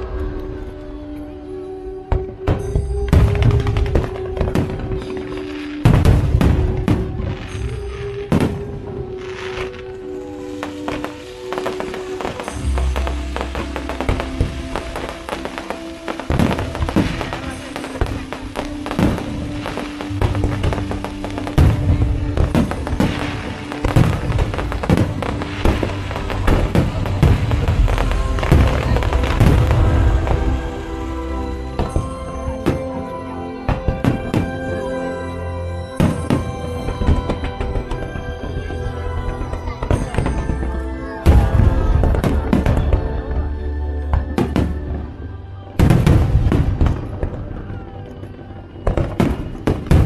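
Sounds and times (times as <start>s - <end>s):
fireworks bangs and crackles: 0.0s - 50.0s
music: 0.0s - 50.0s.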